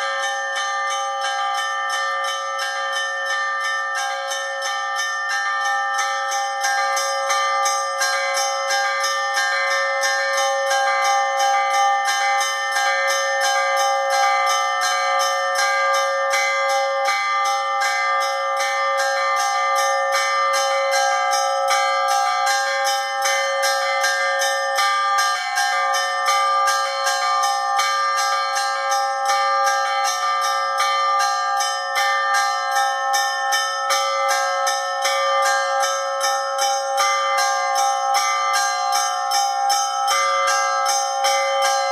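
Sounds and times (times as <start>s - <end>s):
church bells ringing: 0.0s - 41.9s
small bells struck rapidly: 0.0s - 41.9s.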